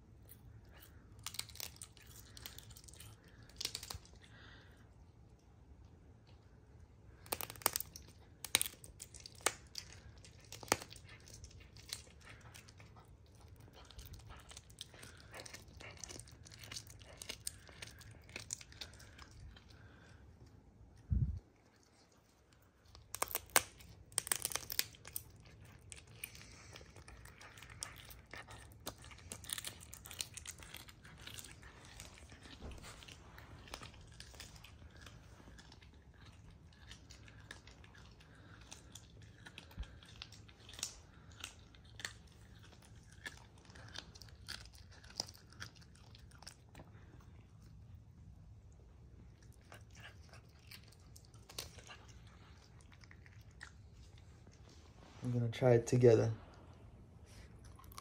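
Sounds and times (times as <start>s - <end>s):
animal crunching bones: 0.3s - 4.6s, 7.1s - 20.2s, 21.7s - 47.8s, 49.2s - 54.7s.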